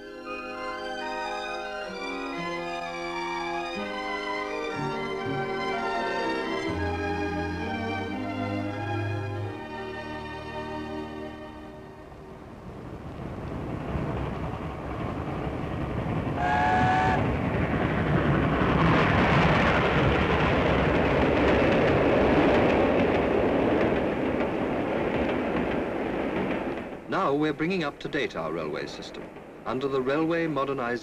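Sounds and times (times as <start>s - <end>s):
steam train passing: 0.0s - 31.0s
wheels rushing on rail: 0.0s - 31.0s.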